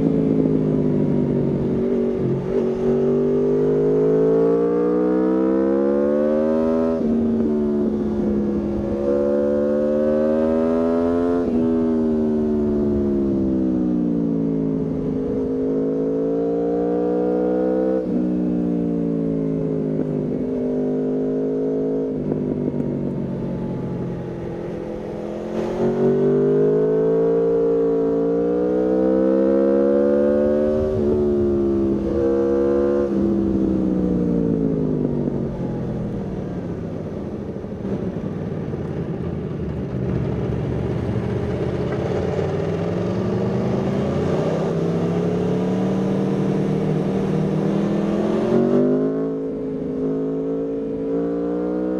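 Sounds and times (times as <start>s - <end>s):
motorcycle engine revving: 0.0s - 38.3s, 39.6s - 51.9s.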